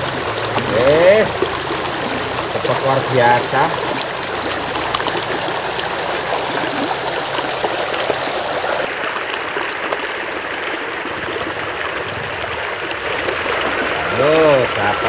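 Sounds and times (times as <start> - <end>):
river water rushing over stones: 0.0 - 15.0.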